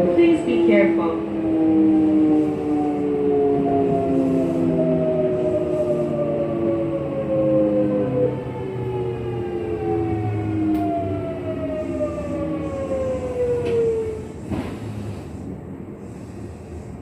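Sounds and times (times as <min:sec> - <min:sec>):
electric train motor whine: 0:00.0 - 0:15.4.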